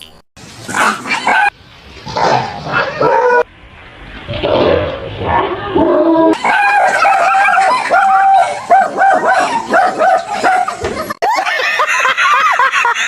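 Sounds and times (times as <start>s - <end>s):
dogs barking and yelping: 0.7s - 3.5s, 5.2s - 13.0s.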